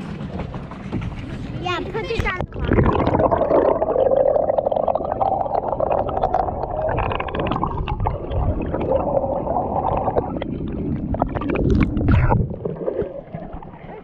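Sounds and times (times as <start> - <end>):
muffled underwater rumbling and gurgling: 0.0 - 14.0.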